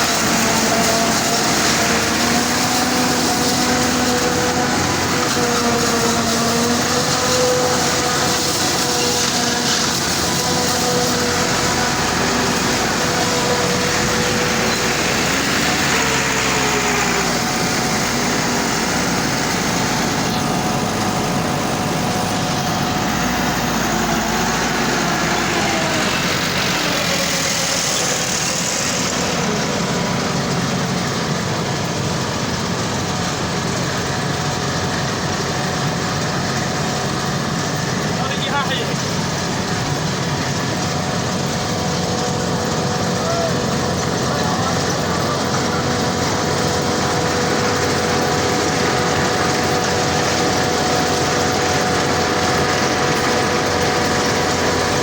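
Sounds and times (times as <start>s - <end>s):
combine harvester running: 0.0s - 55.0s
whining mechanical tones: 0.0s - 55.0s.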